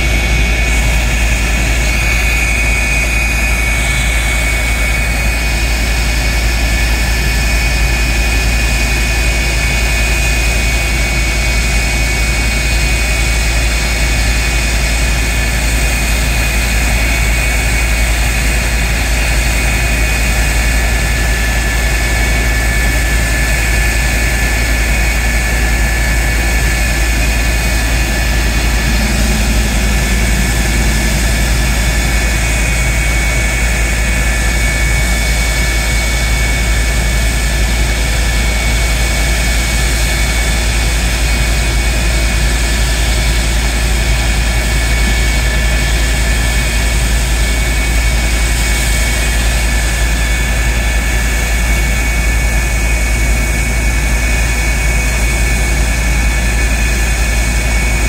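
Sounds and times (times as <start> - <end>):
jet engine rushing with whine: 0.0 - 58.0.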